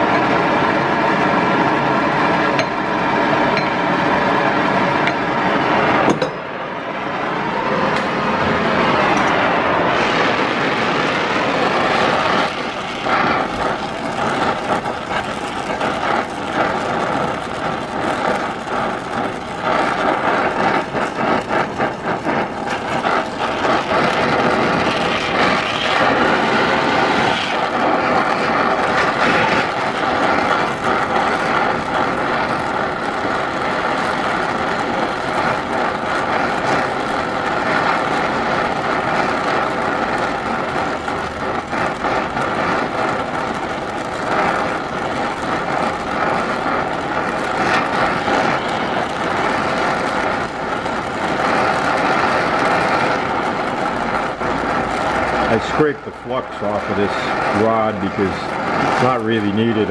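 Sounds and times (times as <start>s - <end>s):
crackling: 0.0s - 59.9s
gas torch hissing: 0.0s - 59.9s.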